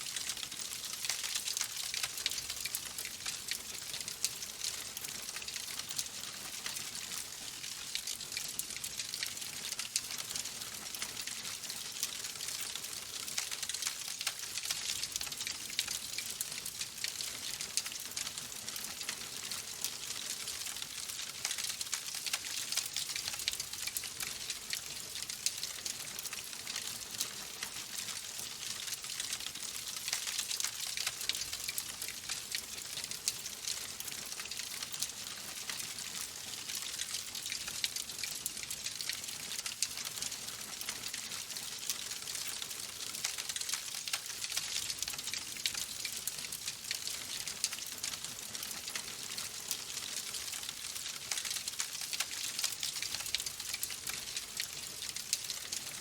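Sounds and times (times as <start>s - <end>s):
logs crackling and popping: 0.1s - 55.8s.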